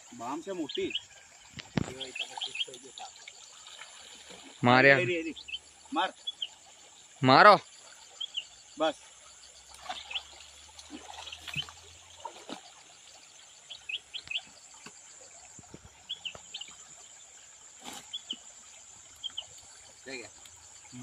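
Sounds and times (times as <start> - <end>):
splashes in shallow water: 0.0 - 21.0
small birds chirping: 0.1 - 21.0.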